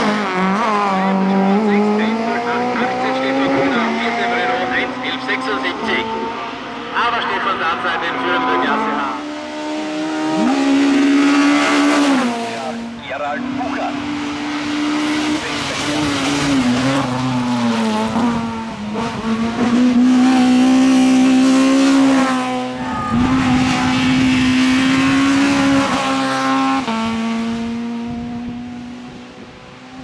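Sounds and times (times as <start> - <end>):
race car engine at high revs: 0.0 - 30.0.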